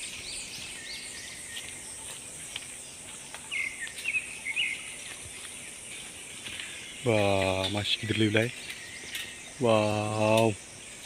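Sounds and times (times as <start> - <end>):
bird chirps: 0.0 - 11.0
insect drone: 0.0 - 11.0.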